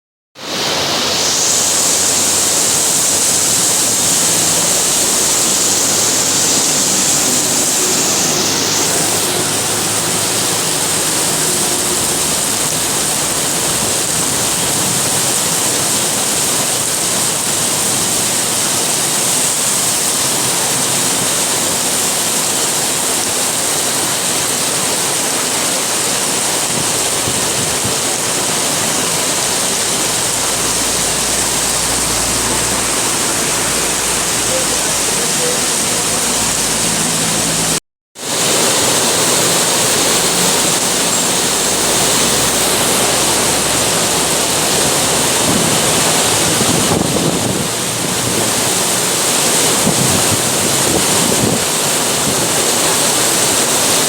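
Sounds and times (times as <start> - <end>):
heavy rain pouring: 0.4 - 54.0.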